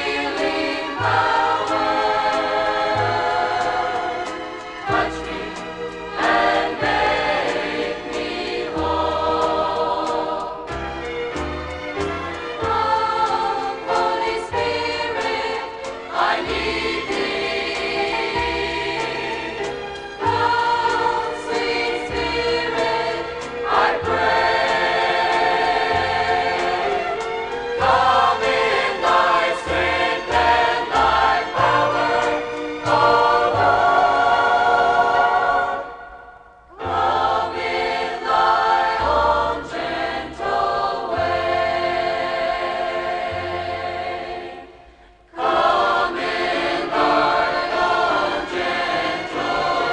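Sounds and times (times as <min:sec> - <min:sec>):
choir singing gospel song: 0:00.0 - 0:49.9
instrumental accompaniment: 0:00.0 - 0:49.9.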